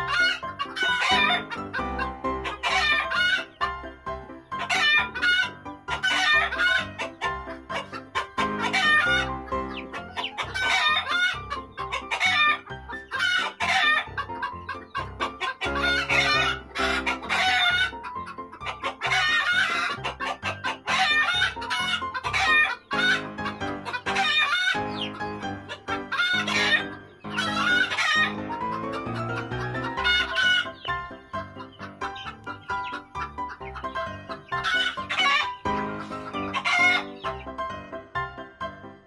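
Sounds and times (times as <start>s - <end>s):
background music: 0.0s - 39.0s
chickens clucking: 0.0s - 39.0s.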